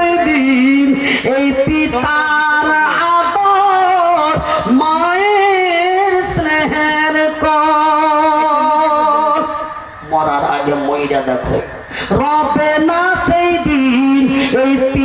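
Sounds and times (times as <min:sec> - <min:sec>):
man singing devotional song: 0:00.0 - 0:10.0, 0:11.4 - 0:15.0.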